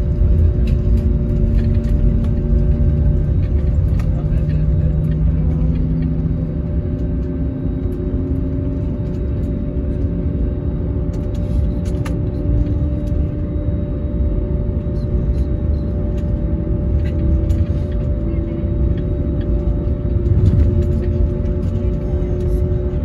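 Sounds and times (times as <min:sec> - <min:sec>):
constant cabin hum: 0:00.0 - 0:23.0
jet engines rumbling at taxi: 0:00.0 - 0:23.0.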